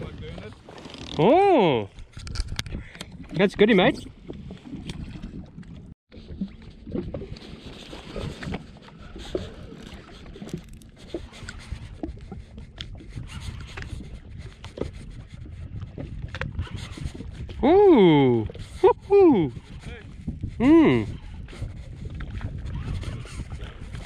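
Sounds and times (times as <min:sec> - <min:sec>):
low rumbling wind: 0:00.0 - 0:24.0
water noise: 0:00.0 - 0:24.0.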